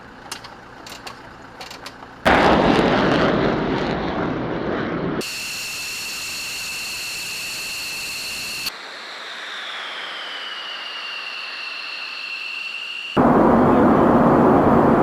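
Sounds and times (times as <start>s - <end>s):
jet engine whine: 0.0s - 15.0s.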